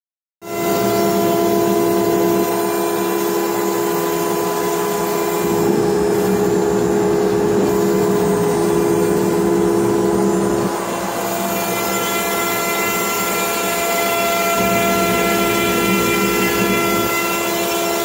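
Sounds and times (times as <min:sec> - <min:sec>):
router cutting wood: 0:00.5 - 0:18.0
router spindle humming: 0:00.6 - 0:18.0.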